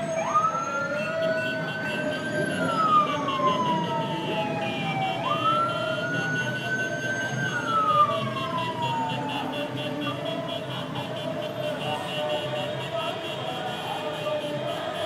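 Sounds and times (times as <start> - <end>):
siren wailing: 0.0 - 14.9.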